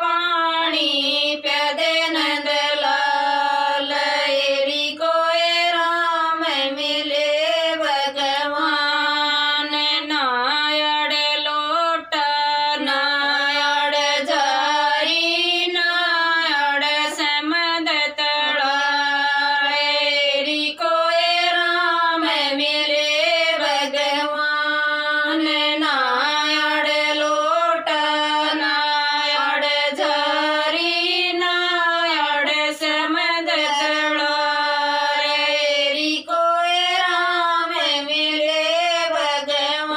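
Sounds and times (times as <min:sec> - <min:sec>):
women singing together: 0:00.0 - 0:39.9.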